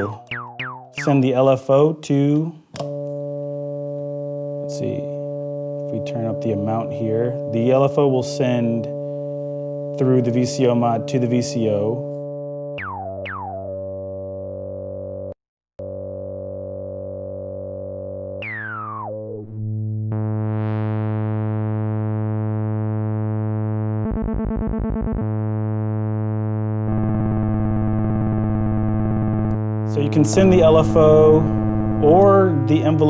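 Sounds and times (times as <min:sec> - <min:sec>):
buzzy analog synthesizer note: 0:00.0 - 0:33.0.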